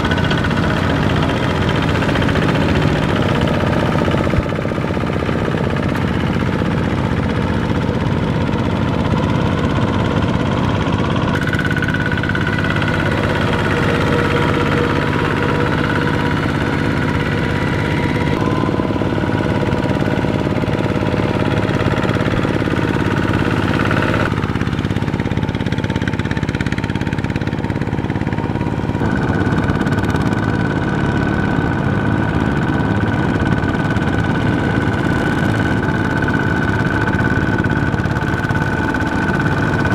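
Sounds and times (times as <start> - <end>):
diesel tractor engines chugging: 0.0 - 39.9.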